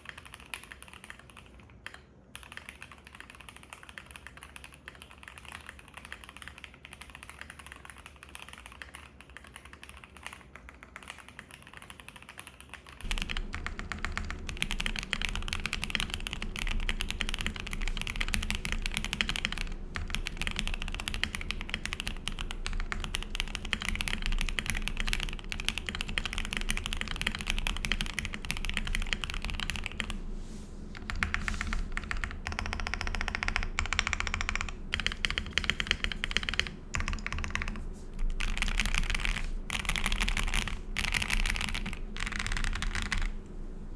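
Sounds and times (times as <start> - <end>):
fast typing on mechanical keyboard: 0.0 - 30.2, 30.9 - 43.4.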